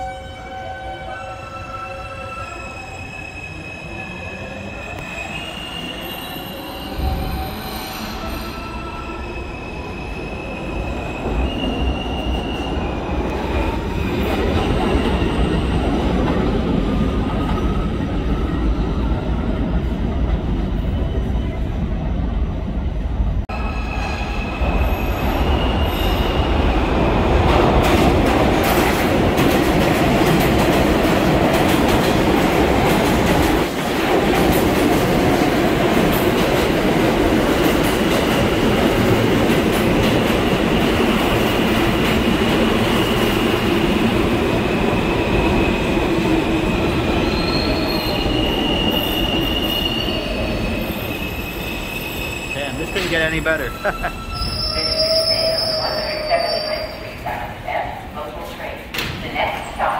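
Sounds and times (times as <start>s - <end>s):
train wheels rumbling on rail: 9.8s - 59.9s.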